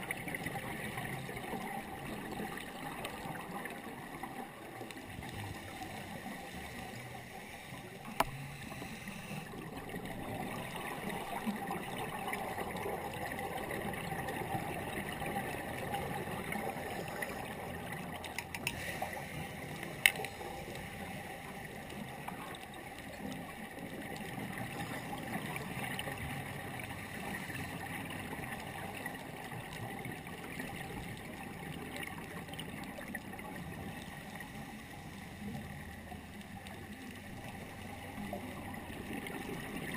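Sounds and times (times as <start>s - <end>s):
muffled underwater noise: 0.0s - 39.9s.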